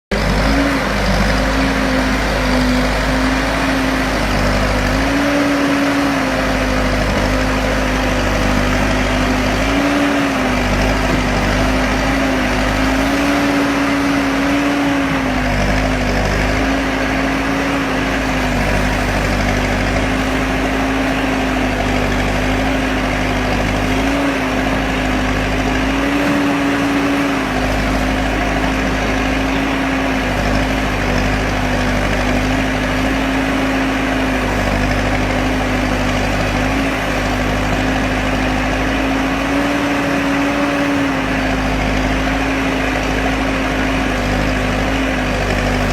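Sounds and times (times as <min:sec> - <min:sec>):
diesel engine running and revving: 0:00.0 - 0:45.9.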